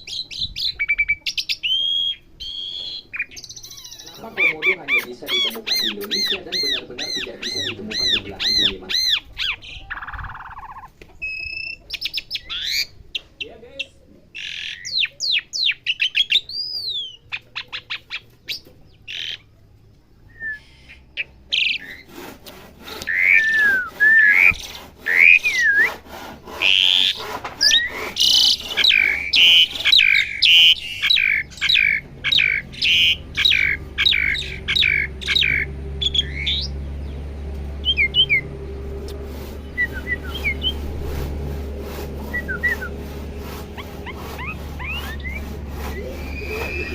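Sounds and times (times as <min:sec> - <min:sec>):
starling singing: 0:00.0 - 0:19.5, 0:22.9 - 0:46.9.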